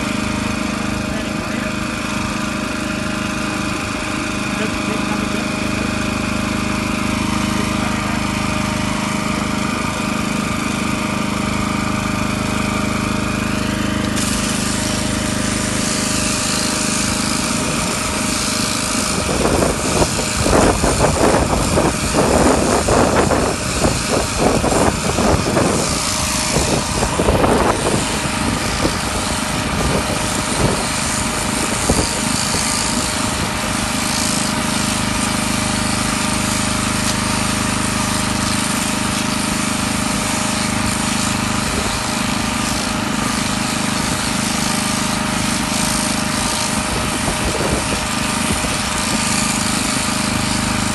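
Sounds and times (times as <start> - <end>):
electric shears buzzing: 0.0 - 50.9.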